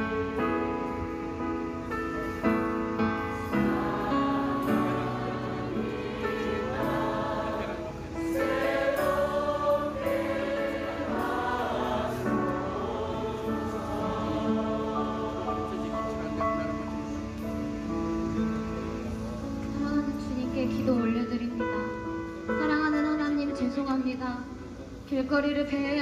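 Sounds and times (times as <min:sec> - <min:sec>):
keyboard: 0:00.0 - 0:26.0.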